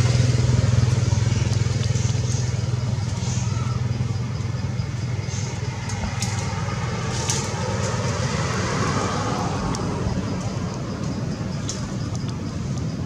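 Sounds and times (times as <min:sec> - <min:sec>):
background traffic rumble: 0:00.0 - 0:13.0.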